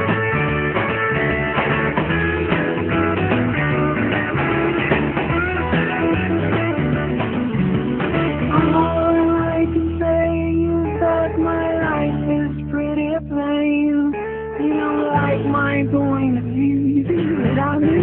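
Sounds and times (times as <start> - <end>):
instrumental rock guitar music: 0.0 - 18.0.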